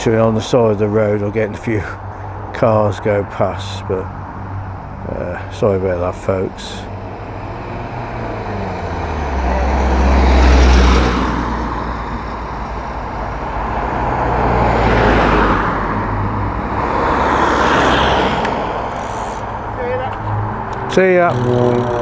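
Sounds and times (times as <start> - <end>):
cars passing close by: 0.0 - 22.0.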